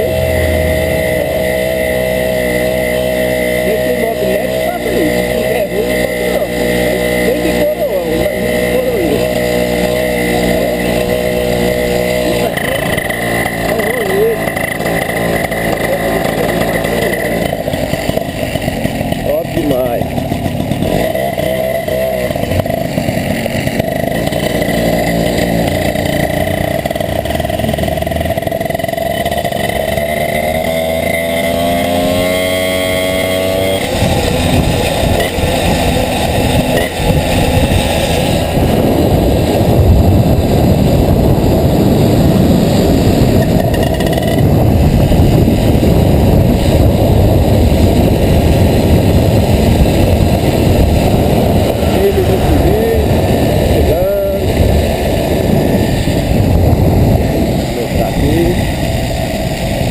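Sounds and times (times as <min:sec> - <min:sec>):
moped engine running: 0:00.0 - 0:59.9
loud low rushing noise: 0:08.5 - 0:59.9.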